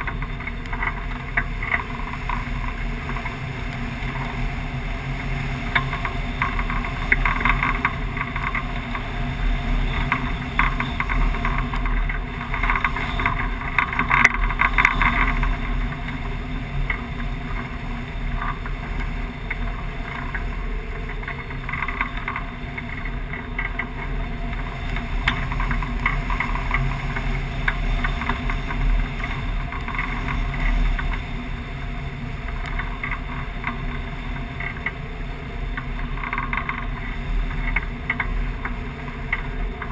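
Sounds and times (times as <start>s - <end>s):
wind rushing and buffeting: 0.0s - 39.9s.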